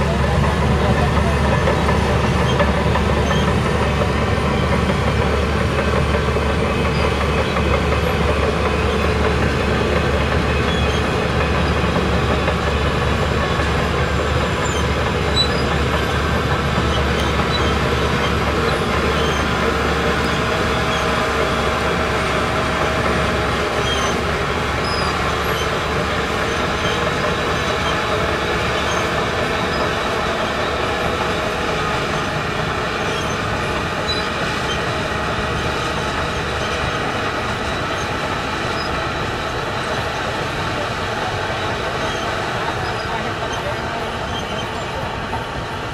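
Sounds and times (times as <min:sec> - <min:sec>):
diesel engine running: 0:00.0 - 0:45.9
steel tracks moving: 0:00.0 - 0:45.9.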